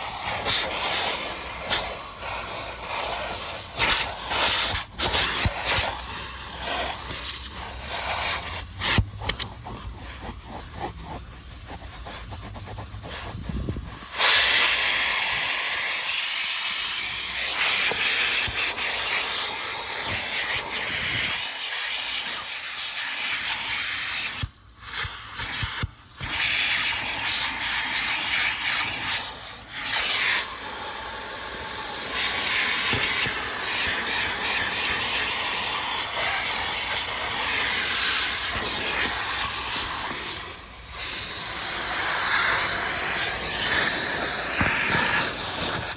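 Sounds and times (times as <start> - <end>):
vacuum hose rushing hiss: 0.0 - 45.9.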